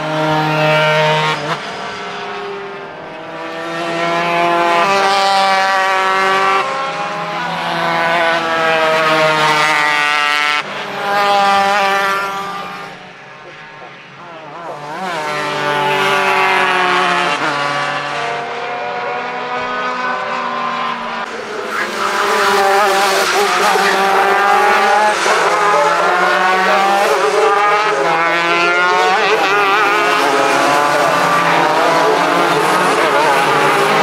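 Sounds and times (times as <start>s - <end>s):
racing kart engines revving: 0.0s - 34.0s.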